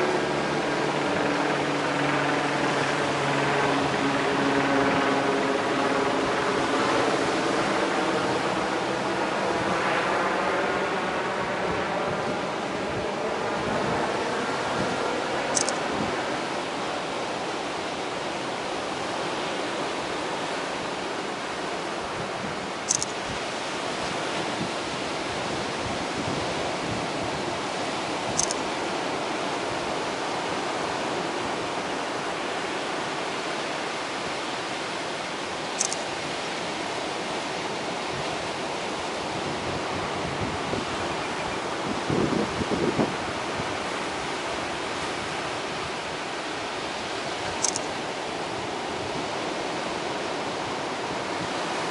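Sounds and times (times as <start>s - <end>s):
ocean surf on rocky shore: 0.0s - 51.9s.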